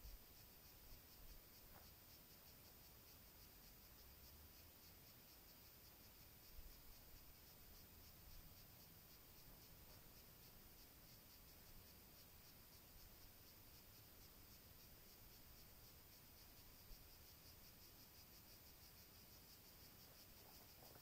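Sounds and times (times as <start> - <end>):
insect chirr: 0.0 - 21.0.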